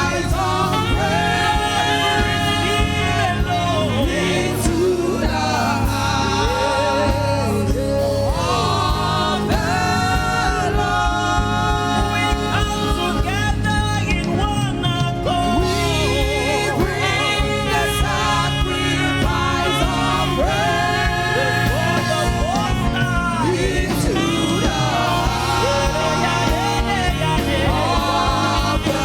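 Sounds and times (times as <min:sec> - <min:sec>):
instrumental accompaniment: 0:00.0 - 0:29.0
voices singing gospel music: 0:00.0 - 0:29.0.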